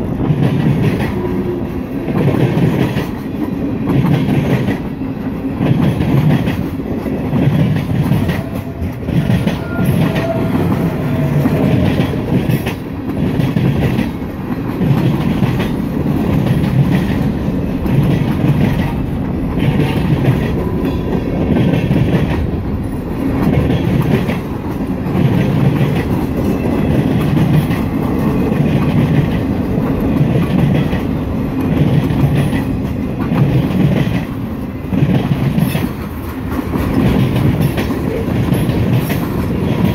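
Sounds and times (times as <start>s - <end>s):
freight train rolling past: 0.0s - 39.9s
wheels clickety-clack: 0.0s - 39.9s.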